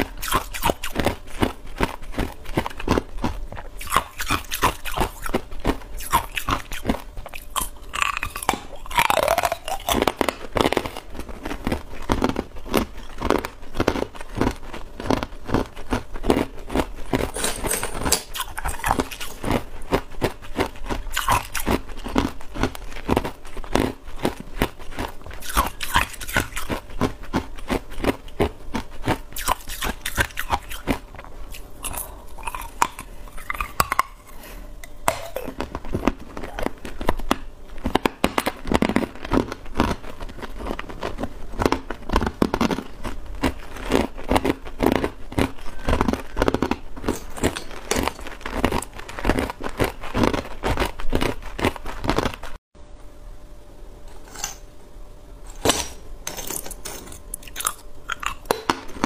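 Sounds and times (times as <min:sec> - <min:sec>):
person crunching ice: 0:00.0 - 0:52.6, 0:57.0 - 0:58.5.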